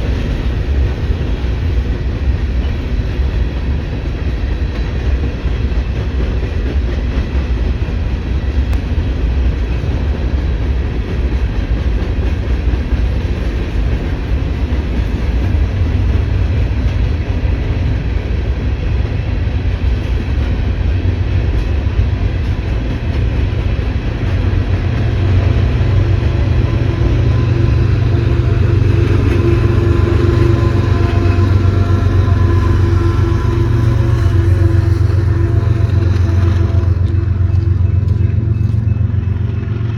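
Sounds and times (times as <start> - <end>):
diesel locomotive hum: 0.0 - 39.9
freight train wheels rumbling: 0.0 - 39.9.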